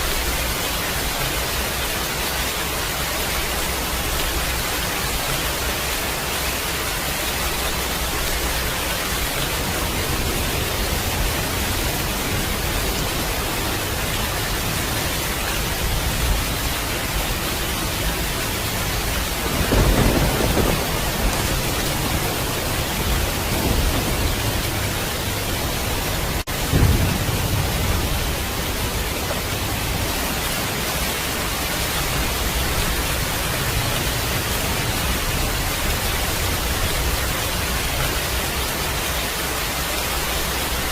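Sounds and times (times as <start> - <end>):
rain hissing: 0.0 - 40.9
thunder rumbling: 0.0 - 40.9.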